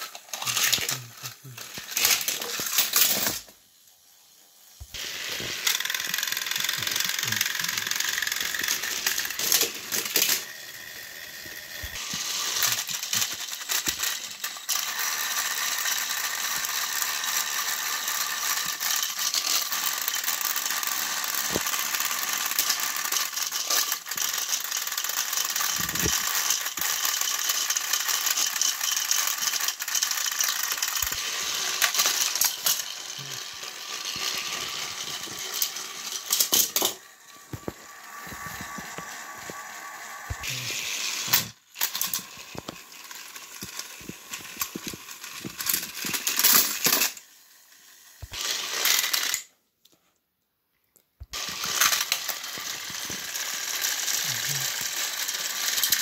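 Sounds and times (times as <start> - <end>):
toy train motors whirring: 0.0 - 49.6, 51.2 - 56.0.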